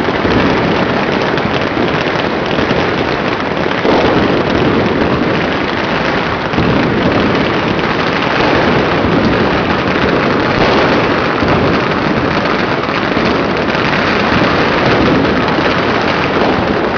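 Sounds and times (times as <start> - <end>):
fireworks crackling barrage: 0.0 - 16.9.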